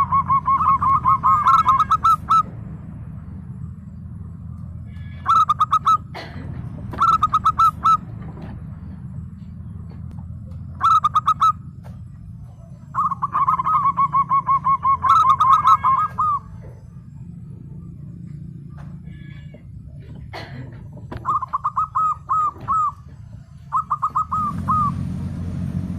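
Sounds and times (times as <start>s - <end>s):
dove cooing: 0.0s - 2.6s, 4.9s - 17.8s, 18.8s - 25.1s
steady low hum: 0.0s - 25.9s.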